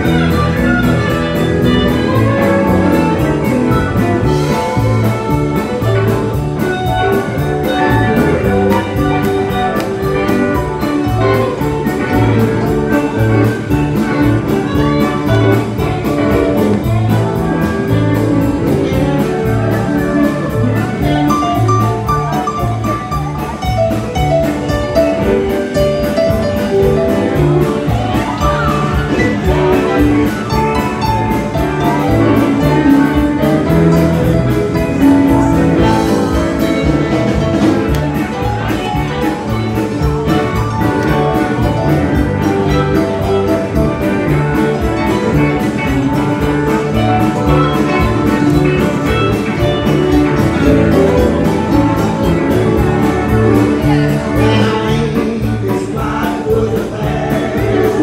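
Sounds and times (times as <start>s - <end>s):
drum kit beat: 0.0s - 58.0s
electric guitars: 0.0s - 58.0s
keyboard solo: 0.0s - 58.0s.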